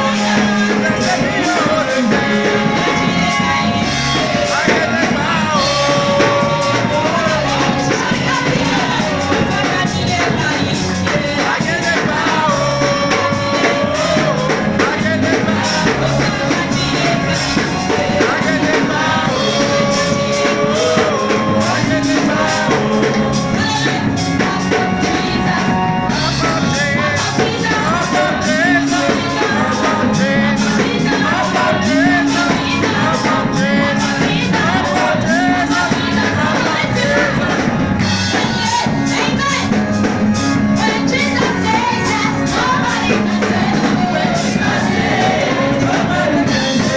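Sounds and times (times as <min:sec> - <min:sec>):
song with singing and beat: 0:00.0 - 0:46.9.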